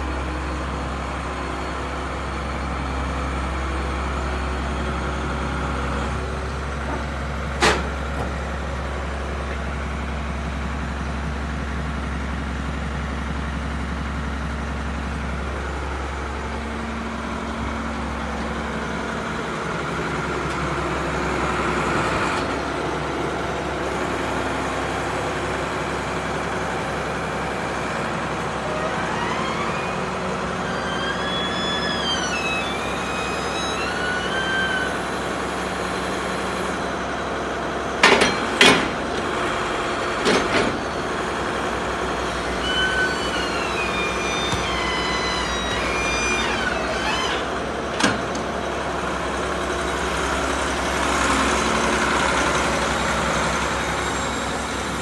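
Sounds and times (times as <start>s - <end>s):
excavator diesel engine running: 0.0s - 55.0s
hydraulics working: 0.0s - 55.0s.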